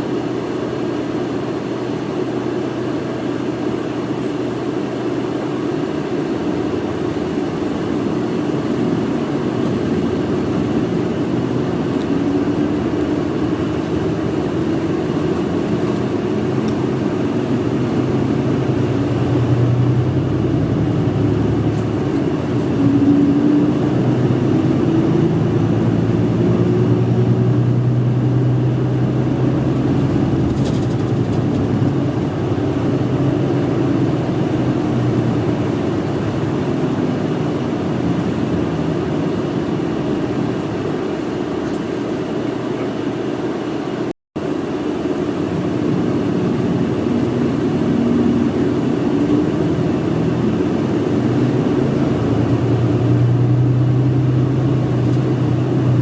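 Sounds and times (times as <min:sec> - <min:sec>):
bus engine hum: 0:00.0 - 0:56.0
road noise: 0:00.0 - 0:56.0.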